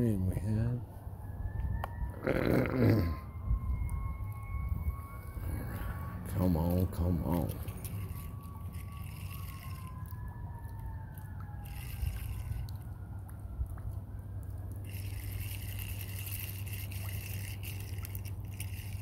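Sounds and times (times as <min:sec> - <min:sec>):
distant sirens wailing: 0:00.0 - 0:19.0
low rumble: 0:00.8 - 0:18.9.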